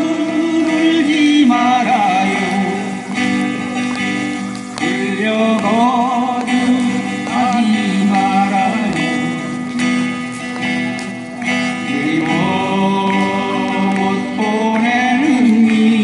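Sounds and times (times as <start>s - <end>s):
person singing long notes: 0.0s - 10.4s, 11.5s - 16.0s
acoustic guitars playing: 0.0s - 16.0s.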